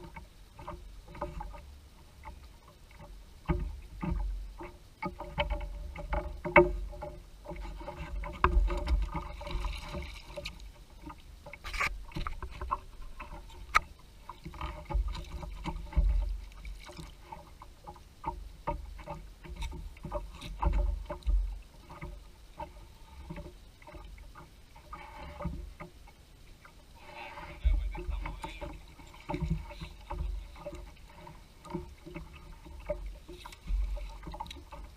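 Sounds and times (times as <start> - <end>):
boat knocks and clicks: 0.0 - 34.9.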